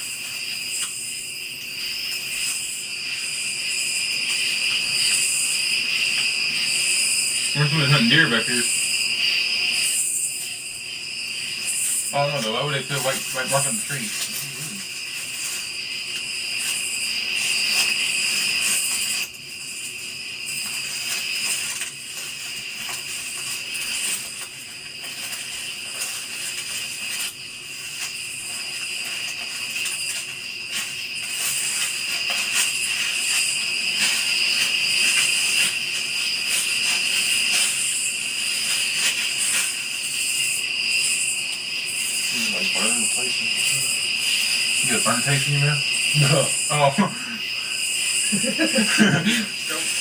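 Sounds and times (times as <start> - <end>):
night insects trilling: 0.0 - 50.0.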